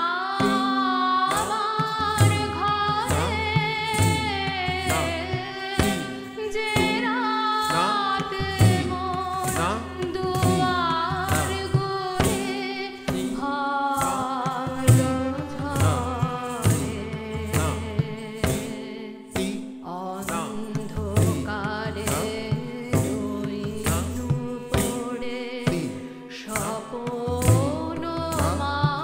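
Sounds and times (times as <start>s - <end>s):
tabla strokes: 0.0s - 29.0s
woman singing: 0.0s - 29.0s.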